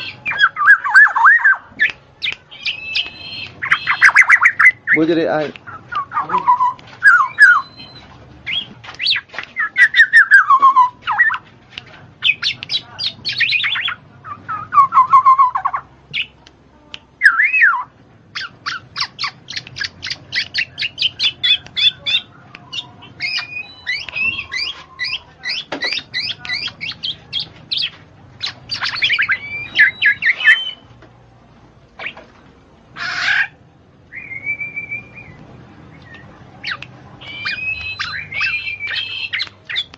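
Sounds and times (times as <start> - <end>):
birds squawking and chirping: 0.0 - 11.5, 12.2 - 16.4, 17.2 - 30.9, 32.0 - 39.9.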